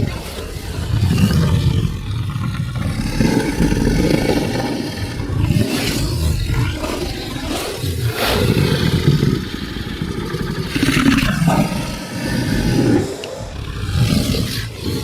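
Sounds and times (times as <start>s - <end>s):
monster roaring: 0.0s - 15.0s.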